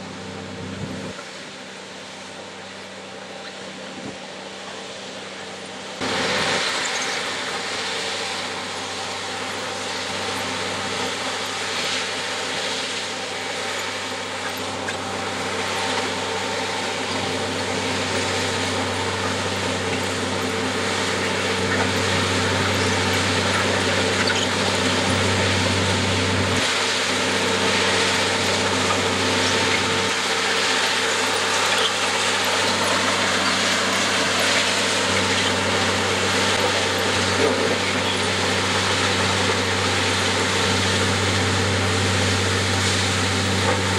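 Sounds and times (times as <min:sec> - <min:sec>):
machine churning through stones: 0:06.0 - 0:43.9.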